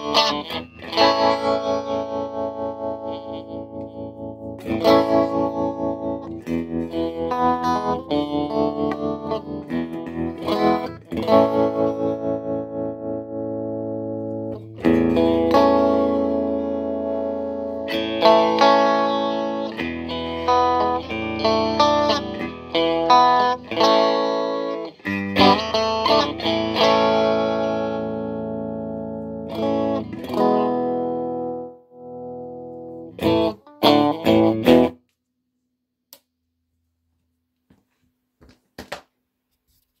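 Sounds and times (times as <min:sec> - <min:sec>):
electric guitar strummed chords: 0:00.0 - 0:35.0.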